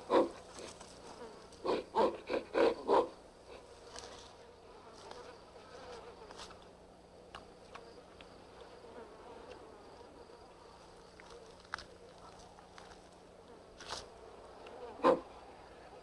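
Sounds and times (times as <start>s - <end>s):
faint insect buzzing: 0.0s - 16.0s.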